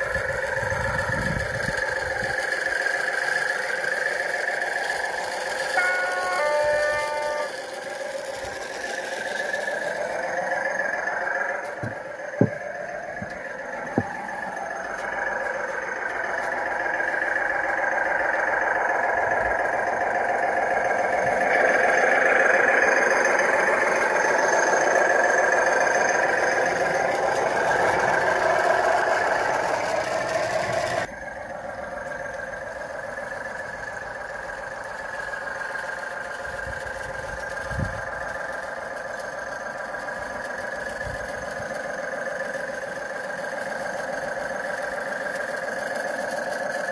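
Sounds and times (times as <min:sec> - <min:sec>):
diesel locomotive engine sound: 0:00.0 - 0:46.9.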